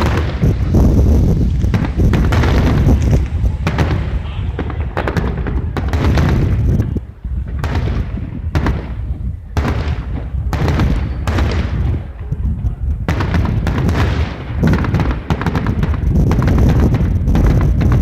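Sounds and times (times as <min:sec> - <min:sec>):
fireworks bursting with echo: 0:00.0 - 0:18.0.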